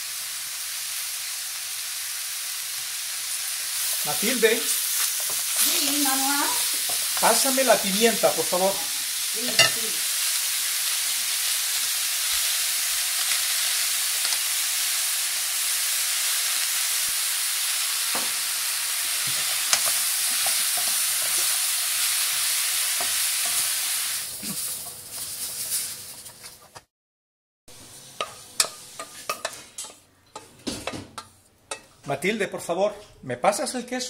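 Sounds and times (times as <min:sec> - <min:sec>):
mushrooms sizzling in a pan: 0:00.0 - 0:26.8, 0:27.7 - 0:31.1.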